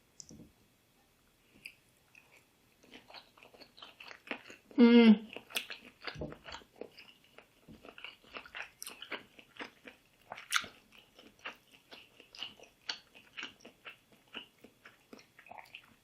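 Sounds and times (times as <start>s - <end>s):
person chewing food: 1.4s - 16.0s
food crunch: 1.6s - 16.0s.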